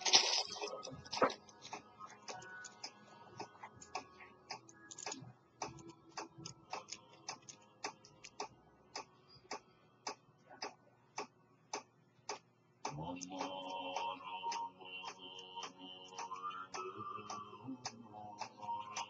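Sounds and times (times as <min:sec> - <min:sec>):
faint steady tones: 0:00.0 - 0:19.0
clock-like ticking: 0:01.0 - 0:19.0.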